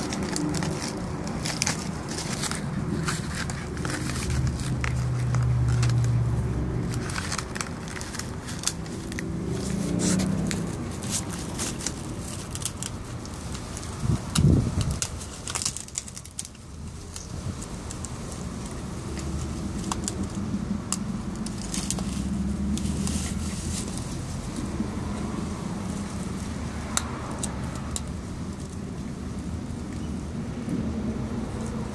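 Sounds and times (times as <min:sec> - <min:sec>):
puppy chewing dry plant husk: 0:00.0 - 0:31.9.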